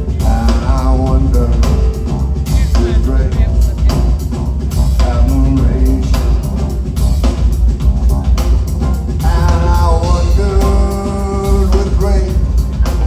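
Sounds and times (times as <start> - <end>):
deep bass: 0.0 - 13.0
drum kit: 0.0 - 13.0.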